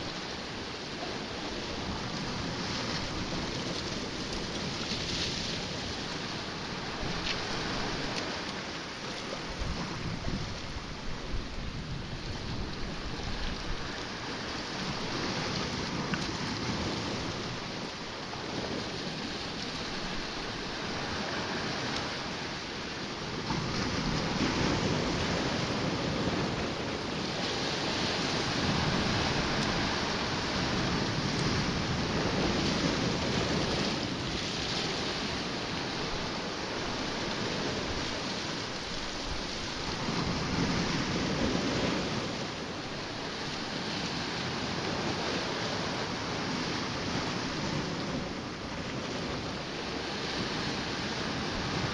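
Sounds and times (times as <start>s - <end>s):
waves washing against rocks: 0.0s - 51.9s
wind: 0.0s - 51.9s.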